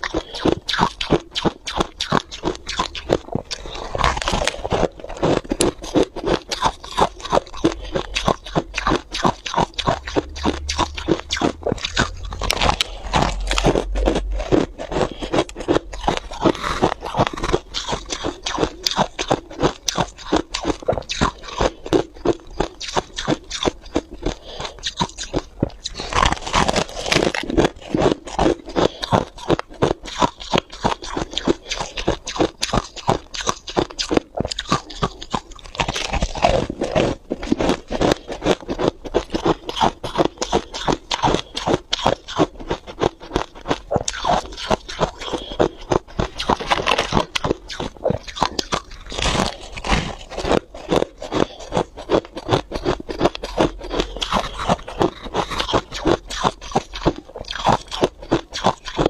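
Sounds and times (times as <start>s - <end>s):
frost being crunched by teeth: 0.0s - 59.0s.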